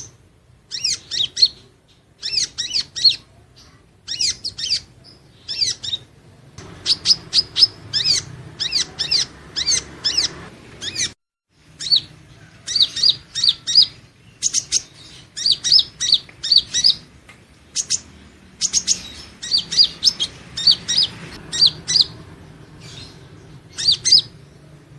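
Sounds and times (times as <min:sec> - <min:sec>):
bird chirping: 0:00.0 - 0:24.9.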